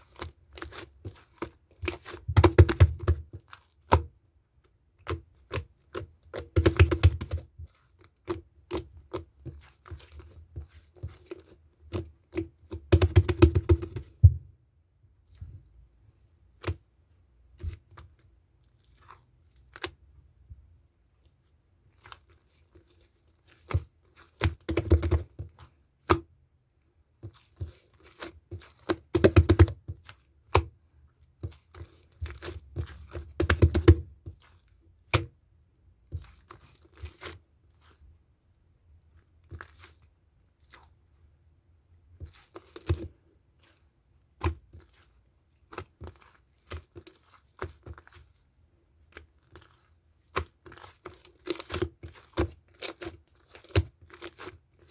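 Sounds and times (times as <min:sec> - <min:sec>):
slime squelching: 0:00.0 - 0:14.4, 0:15.2 - 0:54.9.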